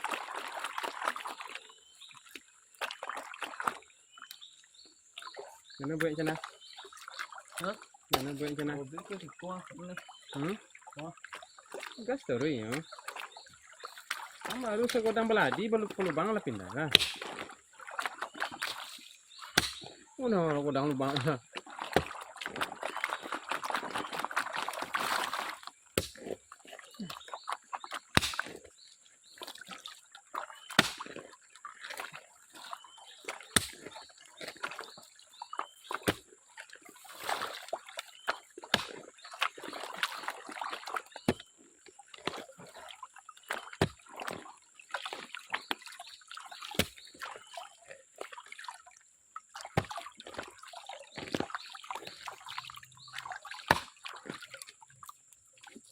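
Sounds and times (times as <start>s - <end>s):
water sloshing in a pan: 0.0s - 55.9s.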